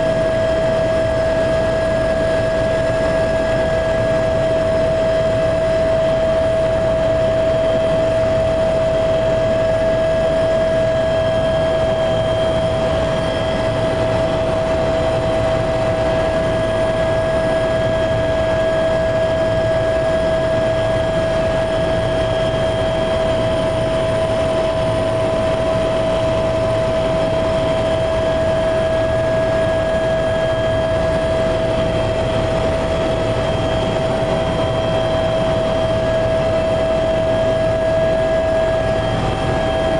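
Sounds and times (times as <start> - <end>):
helicopter engine and rotor drone: 0.0 - 39.9
high-pitched whine: 0.0 - 39.9.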